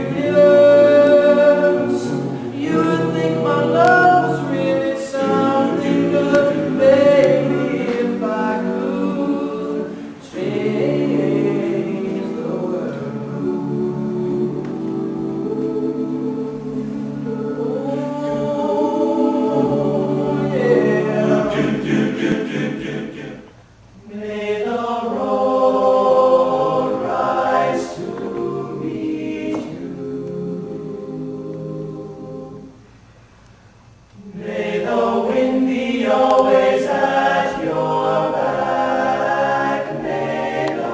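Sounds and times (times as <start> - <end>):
men singing a cappella harmony: 0.0 - 32.8, 34.2 - 40.9.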